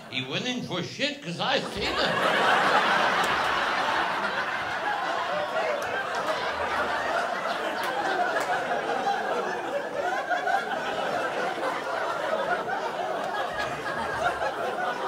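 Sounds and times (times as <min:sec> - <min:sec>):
audience laughing: 0:01.3 - 0:15.0.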